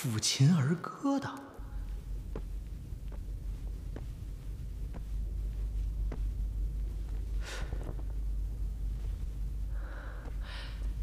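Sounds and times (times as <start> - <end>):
low room rumble: 0.1 - 11.0
soft rustling: 1.5 - 11.0.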